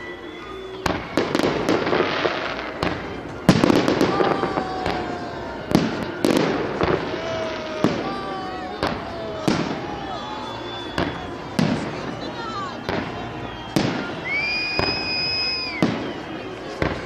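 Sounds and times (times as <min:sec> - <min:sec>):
falling firework whistles: 0:00.0 - 0:17.0
firework bursts and bangs: 0:00.4 - 0:17.0.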